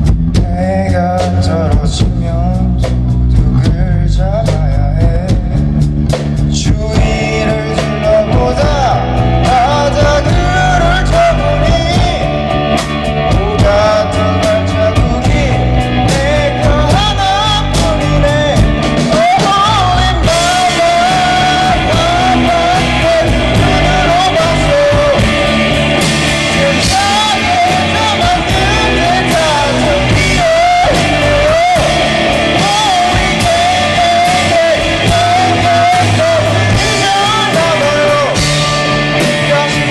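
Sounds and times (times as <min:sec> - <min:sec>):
drum kit: 0:00.0 - 0:39.9
electric guitars: 0:00.0 - 0:39.9
man singing: 0:00.0 - 0:39.9.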